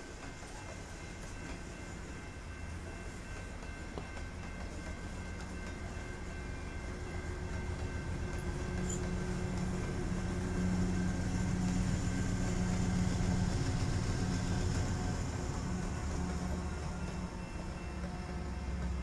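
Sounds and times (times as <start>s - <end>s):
diesel locomotive engine hum: 0.0s - 19.0s
freight train wheels rumbling: 0.0s - 19.0s.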